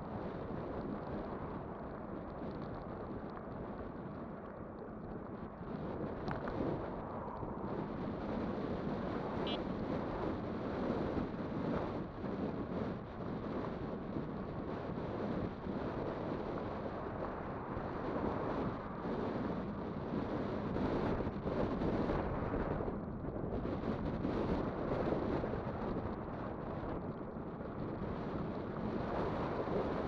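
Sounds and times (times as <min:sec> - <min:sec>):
electric bike riding rumble: 0:00.0 - 0:30.0
wind rushing over microphone: 0:00.0 - 0:30.0.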